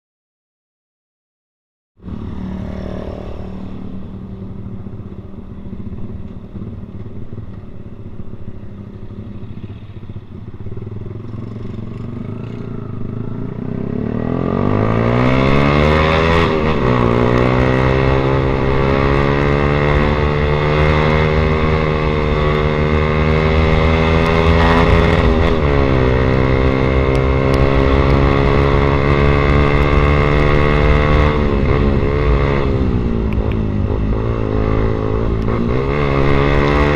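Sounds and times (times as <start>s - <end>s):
motorcycle engine accelerating: 2.0s - 36.9s.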